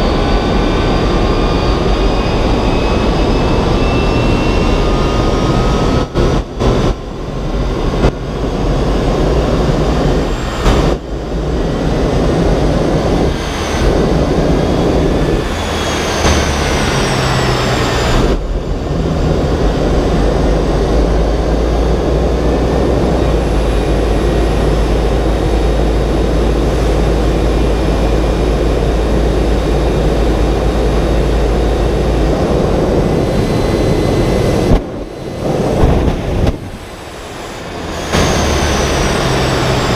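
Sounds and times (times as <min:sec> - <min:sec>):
deep rumble: 0:00.0 - 0:39.9
high whine gliding in pitch: 0:00.0 - 0:39.9
jet turbine engine roar: 0:00.0 - 0:39.9.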